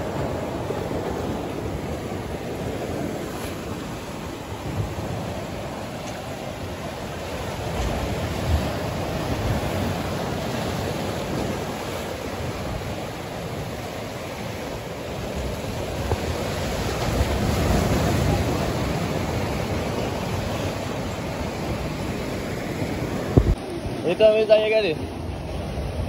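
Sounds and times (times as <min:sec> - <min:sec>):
wind rumbling on microphone: 0:00.0 - 0:24.1
sea surf washing over rocks: 0:00.0 - 0:26.0.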